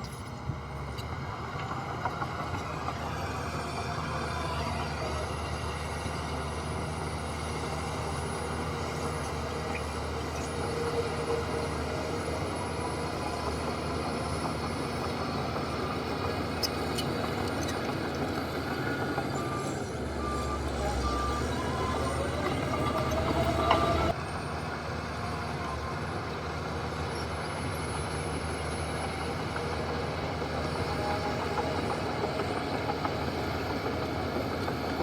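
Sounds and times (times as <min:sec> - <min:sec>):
heavy diesel machinery rumbling: 0:00.0 - 0:35.0.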